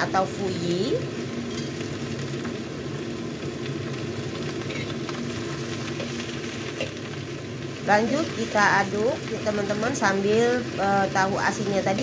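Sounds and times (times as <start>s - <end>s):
greens sizzling in wok: 0.0s - 12.0s.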